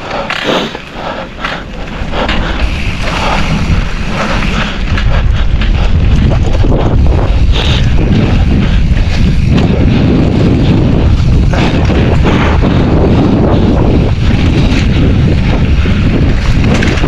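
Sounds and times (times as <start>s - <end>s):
bike knocking and rattling: 0.0s - 17.0s
bike tyres over stones: 0.0s - 17.0s
wind buffeting microphone: 0.0s - 17.0s.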